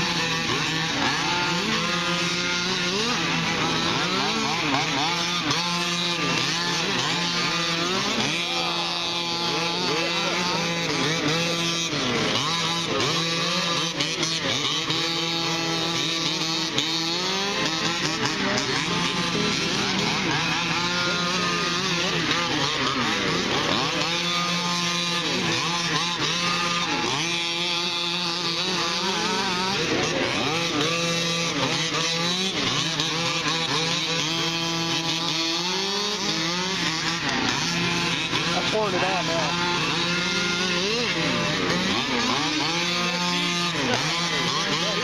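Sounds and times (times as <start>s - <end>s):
small two-stroke engines racing: 0.0s - 45.0s.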